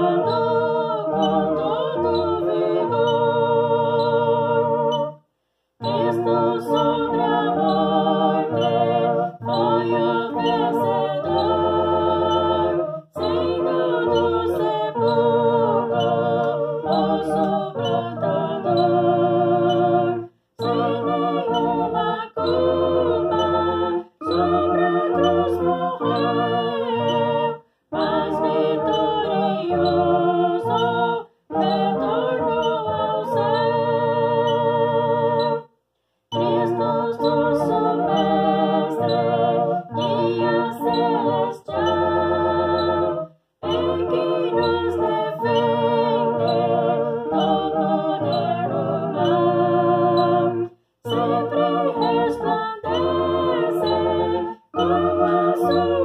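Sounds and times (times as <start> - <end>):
electronic organ chords and bass: 0.0 - 5.2, 5.8 - 35.6, 36.3 - 56.0.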